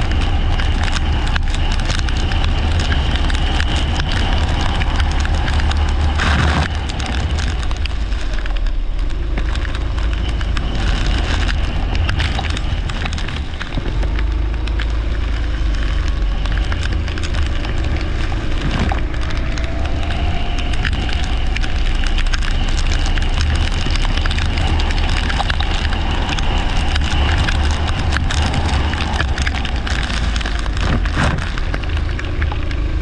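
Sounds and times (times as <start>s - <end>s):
crackling rain and spray: 0.0s - 33.0s
kart engine and wind rumble: 0.0s - 33.0s.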